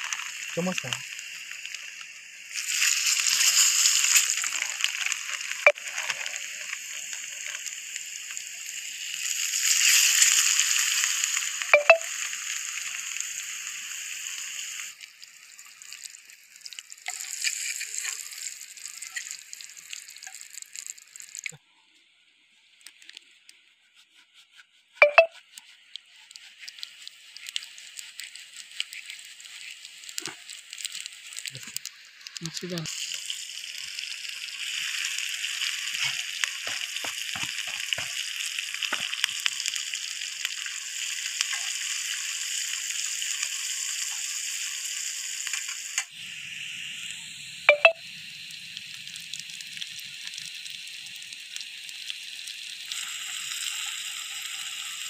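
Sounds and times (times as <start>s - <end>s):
food sizzling in hot oil: 0.0s - 21.6s, 24.4s - 55.0s.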